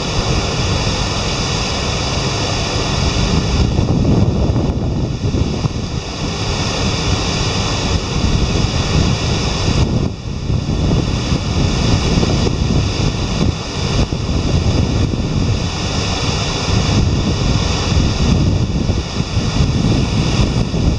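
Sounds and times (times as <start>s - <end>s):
water roaring through spillway: 0.0s - 20.9s.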